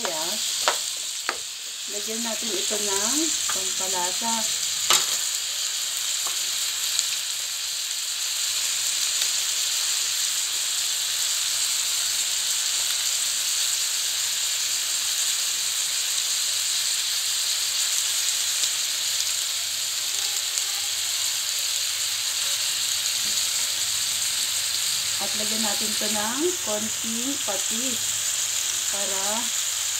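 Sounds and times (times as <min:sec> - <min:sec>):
vegetables sizzling in a frying pan: 0:00.0 - 0:29.9.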